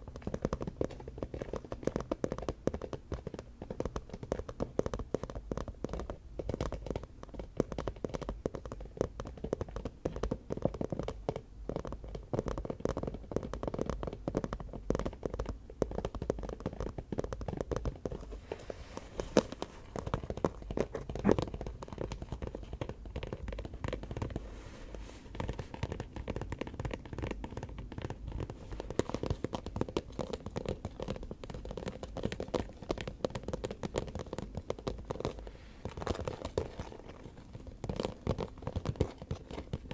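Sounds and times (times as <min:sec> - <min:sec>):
fast finger tapping: 0:00.0 - 0:39.9.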